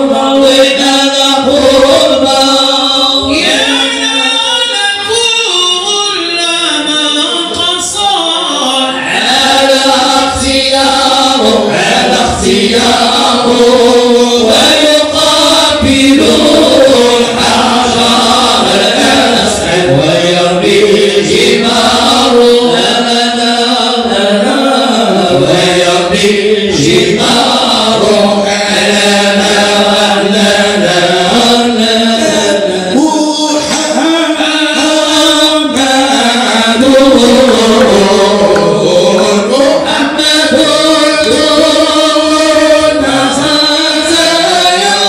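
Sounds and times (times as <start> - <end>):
men chanting hymns: 0.0 - 45.0.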